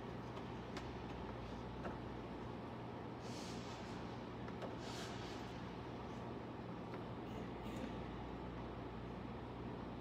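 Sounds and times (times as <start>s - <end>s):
low hum and hiss: 0.0s - 10.0s.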